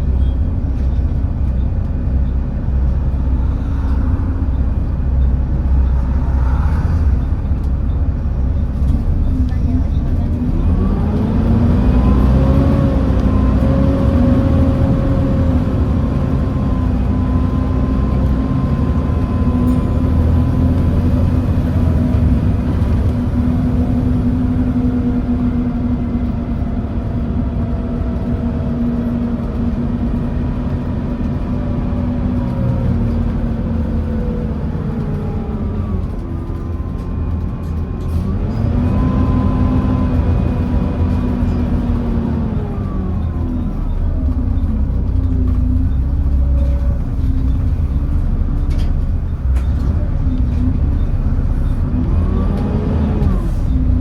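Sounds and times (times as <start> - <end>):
bus cooling fans whining: 0.0 - 54.0
low diesel engine rumble: 0.0 - 54.0.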